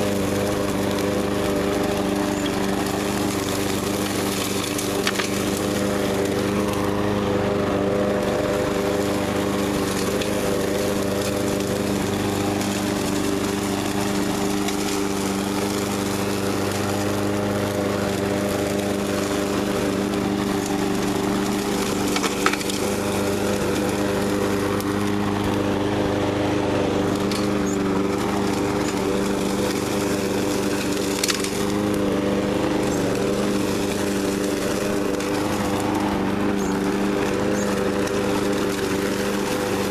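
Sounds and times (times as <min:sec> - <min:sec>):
lawn mower running: 0:00.0 - 0:39.9
blade chopping leaves and twigs: 0:00.6 - 0:07.1, 0:09.9 - 0:17.2, 0:18.0 - 0:24.0, 0:27.1 - 0:39.9.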